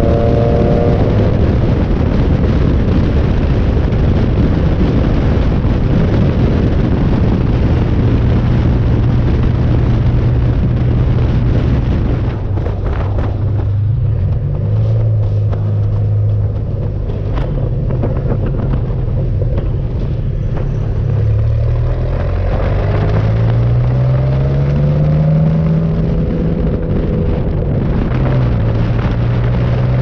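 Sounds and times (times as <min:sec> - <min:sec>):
car engine driving: 0:00.0 - 0:30.0
wind buffeting microphone: 0:00.0 - 0:30.0.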